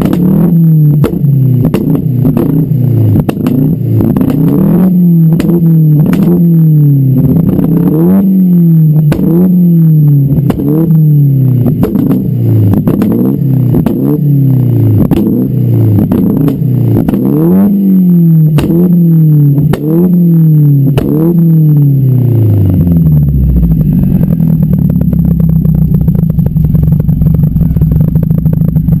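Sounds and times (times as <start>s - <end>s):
car engine idling: 0.0s - 29.0s
car engine revving: 0.0s - 29.0s
exhaust cracks: 0.0s - 29.0s.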